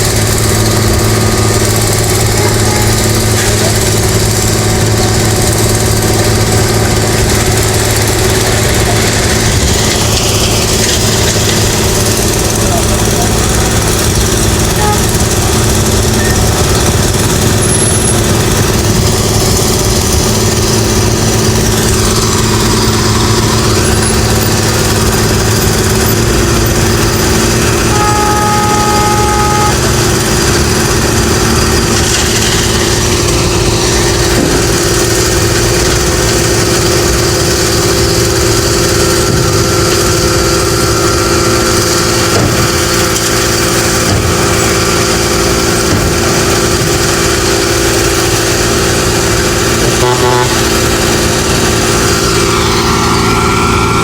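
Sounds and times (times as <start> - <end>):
construction machinery engine running: 0.0 - 54.0.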